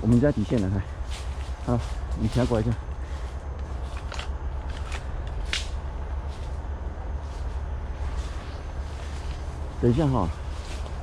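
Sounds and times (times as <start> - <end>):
footsteps: 0.0 - 11.0
rustling of gear and undergrowth: 0.0 - 11.0
steady low rumble: 0.0 - 11.0.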